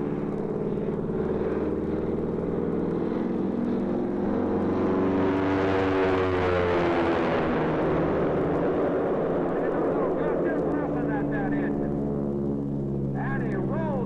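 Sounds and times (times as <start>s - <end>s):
biplane engine in flight: 0.0s - 14.0s.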